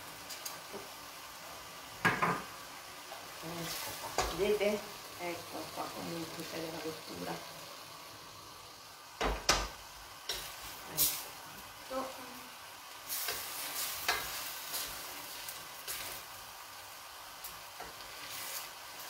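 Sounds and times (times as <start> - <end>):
pan sizzling: 0.0 - 19.0.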